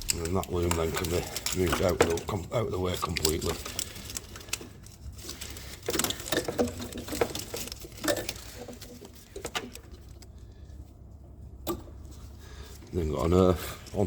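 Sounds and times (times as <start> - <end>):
cables and connectors clicking rustling: 0.0 - 14.0.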